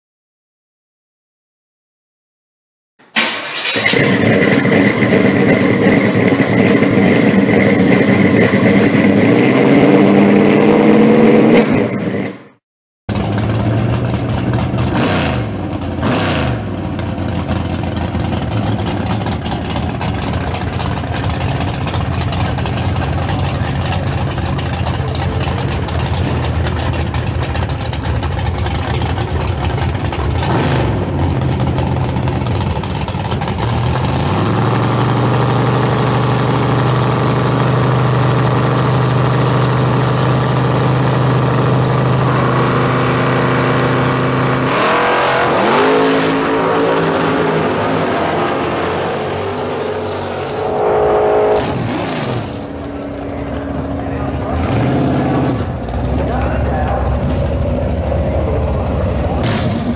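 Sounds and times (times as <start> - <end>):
drag car engine revving and launching: 3.0 - 59.9.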